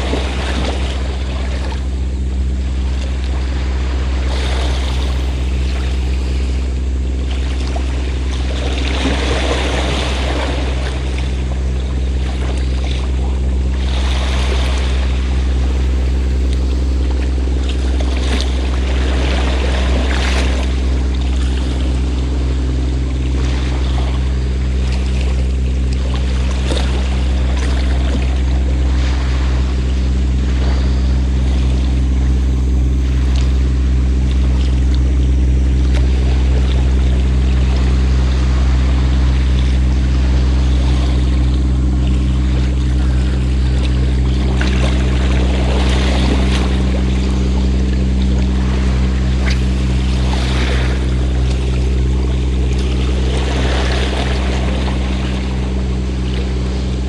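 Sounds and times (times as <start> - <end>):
boat engine droning: 0.0 - 57.0
waves washing onto shore: 0.0 - 57.0.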